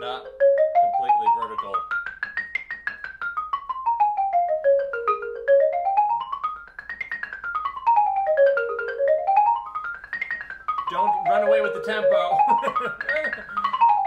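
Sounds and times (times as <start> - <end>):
xylophone scales: 0.0 - 14.0.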